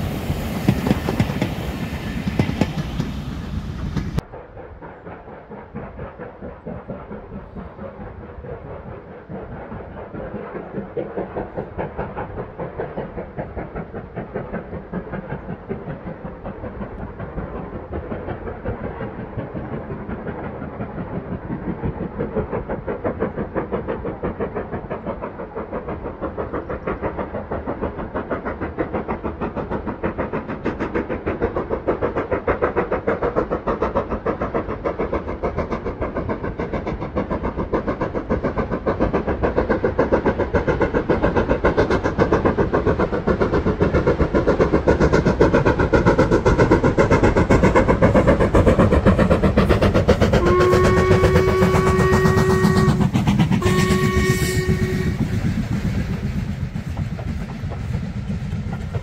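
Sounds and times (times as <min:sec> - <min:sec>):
train running with fast beat: 0:00.0 - 0:59.0.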